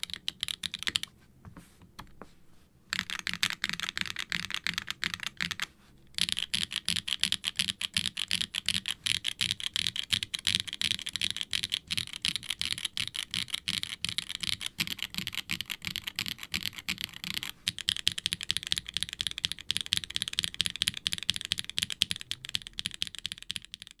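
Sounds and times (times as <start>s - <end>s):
fast typing on mechanical keyboard: 0.0s - 1.1s, 2.9s - 24.0s.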